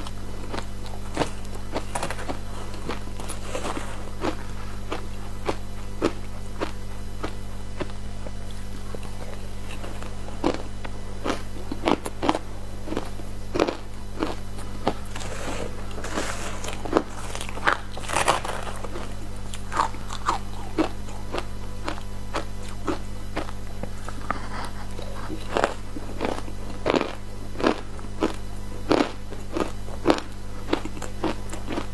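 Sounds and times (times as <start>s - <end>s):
ice crunching being chewed: 0.0s - 31.9s
steady low hum: 0.0s - 31.9s.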